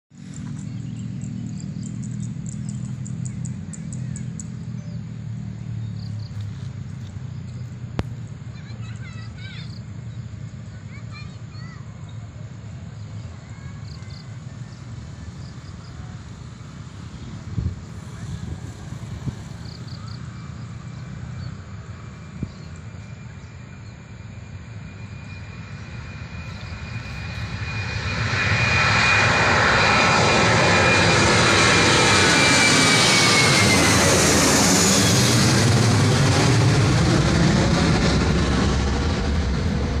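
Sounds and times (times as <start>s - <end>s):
high jet engine whine: 0.1s - 40.0s
jet airliner engines roaring: 0.2s - 40.0s.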